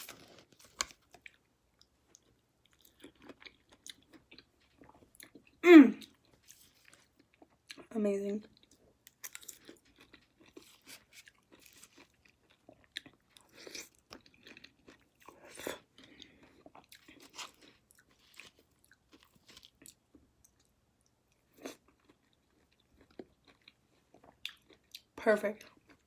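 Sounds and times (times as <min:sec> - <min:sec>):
person chewing wet crunchy fruit: 0:00.0 - 0:07.9, 0:08.5 - 0:26.0.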